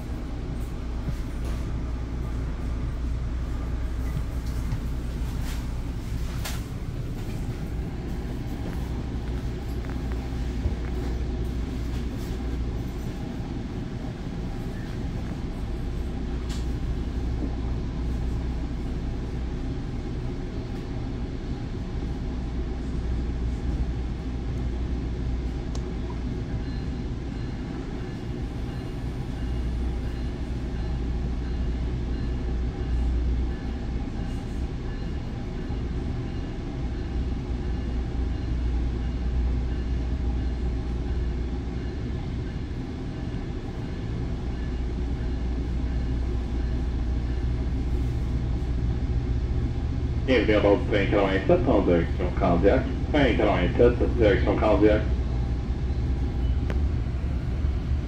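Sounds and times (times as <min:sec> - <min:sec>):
train coach rumble and hum: 0:00.0 - 0:58.0.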